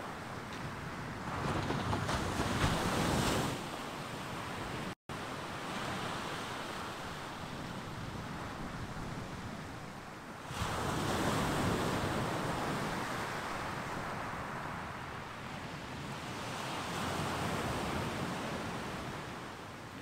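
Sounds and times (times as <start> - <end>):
sea surf breaking on beach: 0.7 - 20.0.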